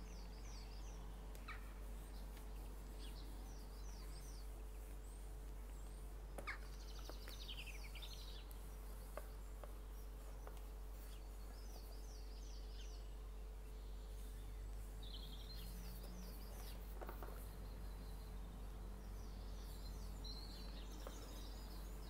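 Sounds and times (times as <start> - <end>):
faint bird chirps: 0.0 - 22.0
steady low hum: 0.0 - 22.0.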